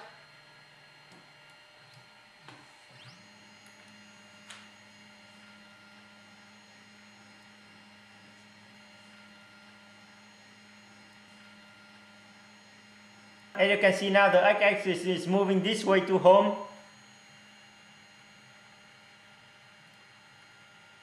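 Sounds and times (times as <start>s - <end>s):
stepper motor whine and hum: 0.0s - 21.0s.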